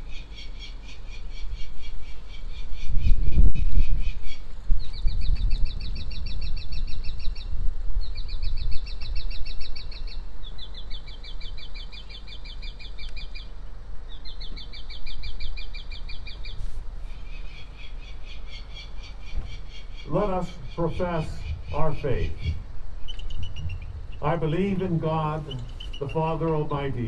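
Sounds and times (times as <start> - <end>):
low background rumble: 0.0 - 27.0
songbird trilling: 0.0 - 27.0.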